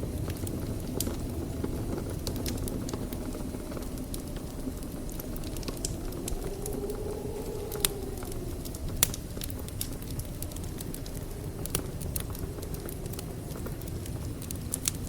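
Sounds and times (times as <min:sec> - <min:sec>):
wood fire rumbling and crackling: 0:00.0 - 0:15.0.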